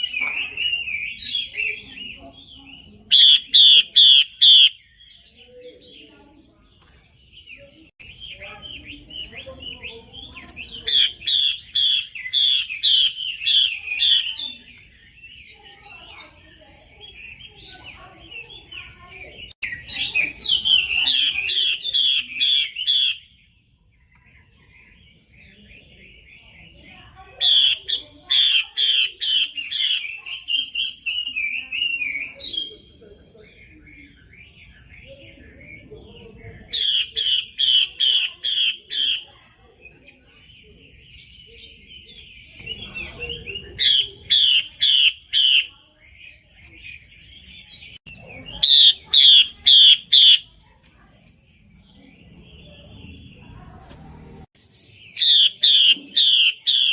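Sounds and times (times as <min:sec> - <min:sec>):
bird singing repeated notes and warbling: 0:00.0 - 0:56.9.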